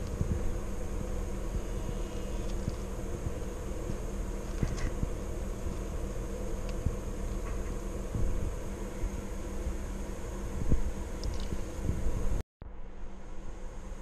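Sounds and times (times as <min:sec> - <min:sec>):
fan-like mechanical hum: 0:00.0 - 0:14.0.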